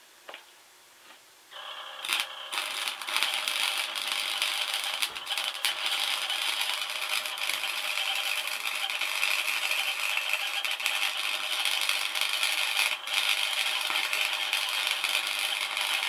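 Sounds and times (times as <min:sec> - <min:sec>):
welding arc crackling: 0:01.5 - 0:16.0.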